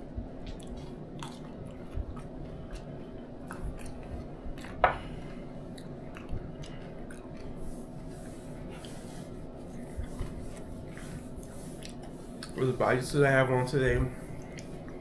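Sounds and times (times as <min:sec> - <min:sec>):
quiet chewing: 0:00.4 - 0:09.0, 0:09.6 - 0:12.6, 0:14.3 - 0:15.0.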